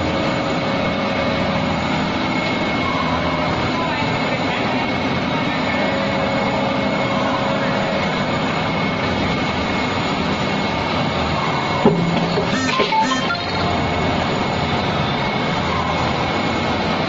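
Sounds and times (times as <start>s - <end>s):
machine mechanical hum: 0.0s - 17.0s.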